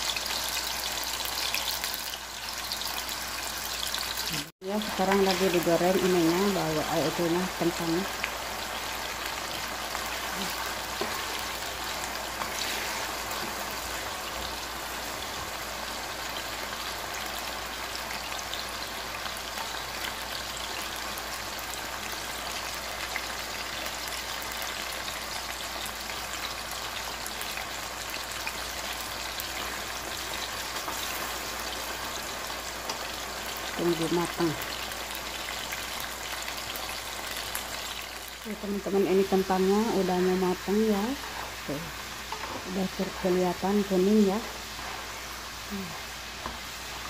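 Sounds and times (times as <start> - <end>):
potatoes sizzling in hot oil: 0.0 - 47.0.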